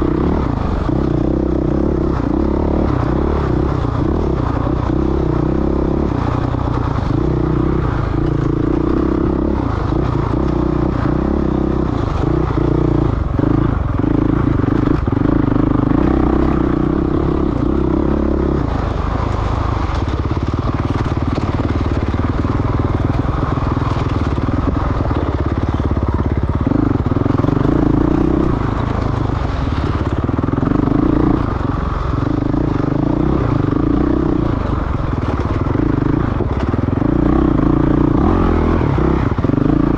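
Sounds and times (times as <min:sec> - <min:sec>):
dirt bike engine revving: 0:00.0 - 0:19.1, 0:19.8 - 0:39.9.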